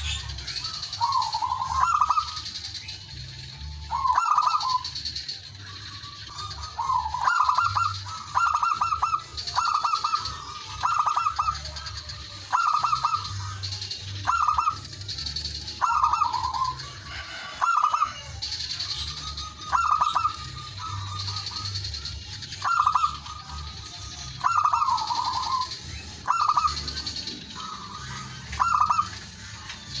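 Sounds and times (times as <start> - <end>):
dove trilled cooing: 0.0 - 3.0, 3.6 - 30.0.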